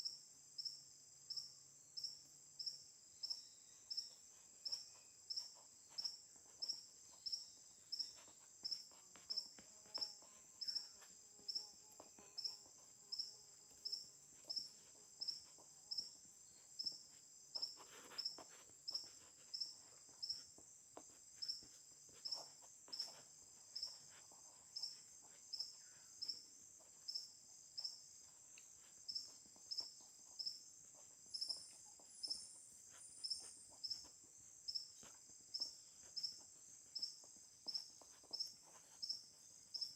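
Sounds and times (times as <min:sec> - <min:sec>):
crickets chirping: 0:00.0 - 0:39.9
faint ticks and rustles: 0:00.0 - 0:39.9.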